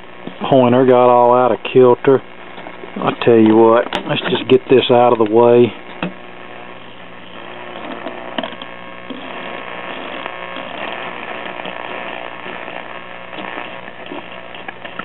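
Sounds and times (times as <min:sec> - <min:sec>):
radio speaker hum: 0:00.0 - 0:15.0
radio static and whistles: 0:00.0 - 0:15.0.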